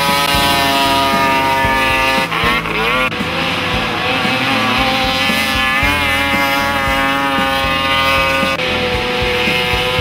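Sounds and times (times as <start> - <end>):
snowmobile engine at high revs: 0.0 - 10.0.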